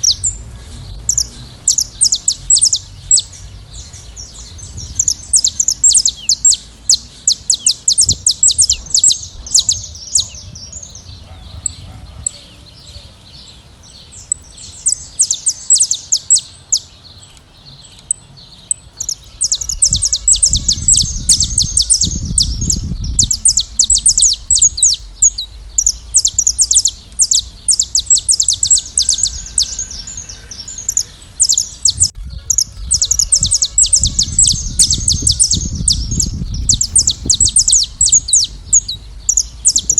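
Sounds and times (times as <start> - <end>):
low rumble: 0.0 - 15.1, 19.0 - 39.9
finches chirping: 0.0 - 39.9.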